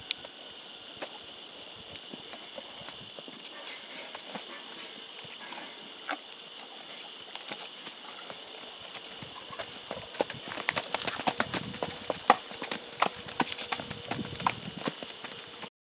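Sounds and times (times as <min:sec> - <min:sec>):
hooves clopping on dry dirt: 0:00.0 - 0:15.7.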